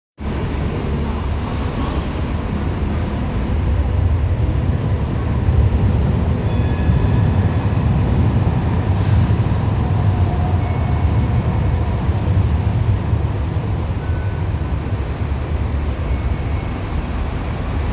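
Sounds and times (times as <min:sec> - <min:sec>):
tram equipment rumbling: 0:00.2 - 0:17.9.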